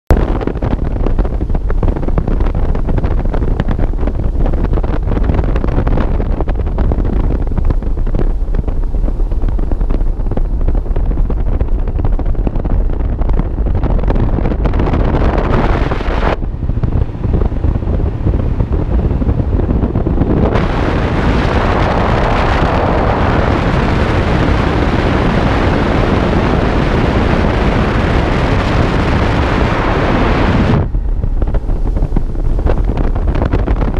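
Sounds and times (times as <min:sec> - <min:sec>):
outboard motor: 0:00.1 - 0:33.9
wind buffeting microphone: 0:00.1 - 0:33.9.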